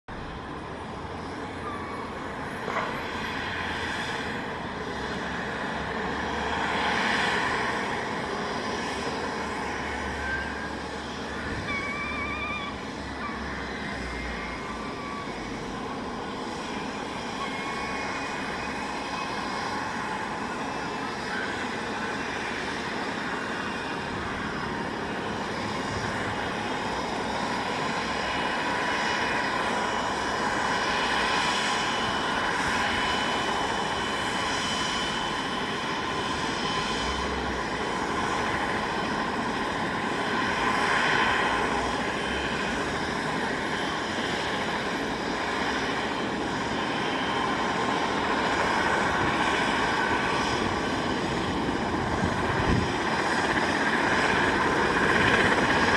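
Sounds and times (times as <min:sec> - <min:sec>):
helicopter rotor rushing: 0:00.1 - 0:55.9
helicopter turbine whine: 0:00.1 - 0:55.9.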